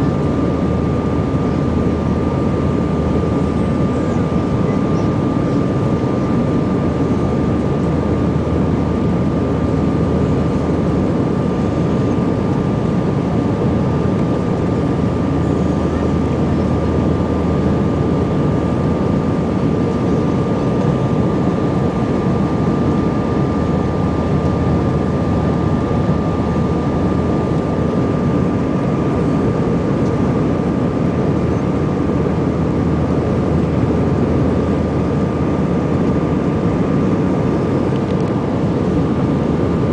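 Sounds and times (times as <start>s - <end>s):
jet cabin engine roar: 0.0s - 39.9s.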